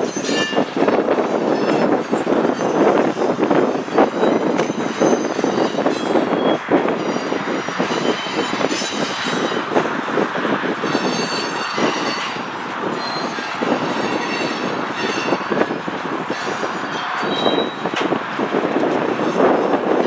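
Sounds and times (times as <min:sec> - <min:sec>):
train wheels rumbling on rail: 0:00.0 - 0:20.0
wheels clicking over rail joints: 0:00.0 - 0:20.0
wheels squealing: 0:00.0 - 0:20.0.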